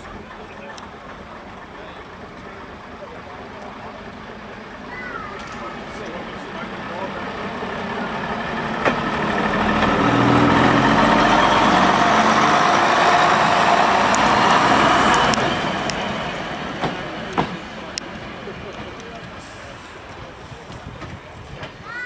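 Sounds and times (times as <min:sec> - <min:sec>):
diesel railcar passing: 0:00.0 - 0:22.0.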